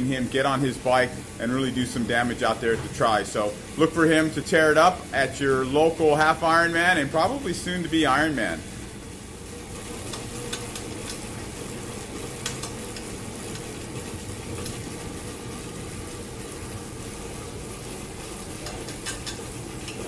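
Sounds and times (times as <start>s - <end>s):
exercise bike flywheel whirring: 0.0s - 20.0s.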